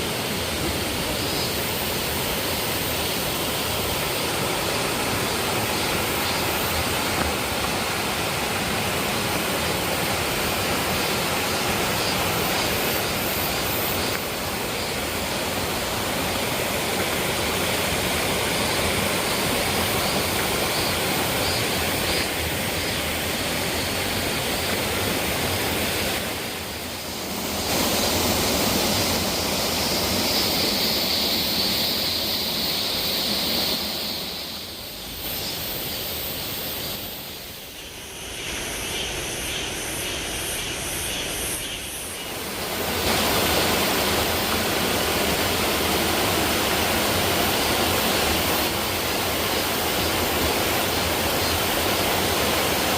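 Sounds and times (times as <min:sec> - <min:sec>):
waterfall rushing: 0:00.0 - 0:37.6, 0:42.3 - 0:52.9.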